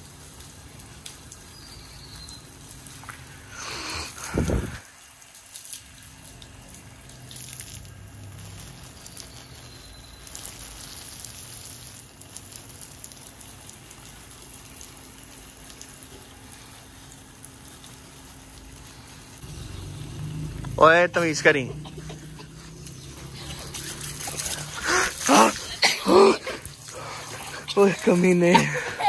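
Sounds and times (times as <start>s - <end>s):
hose spray splashing hiss: 0.0s - 29.0s
water pattering through leaves: 0.0s - 29.0s.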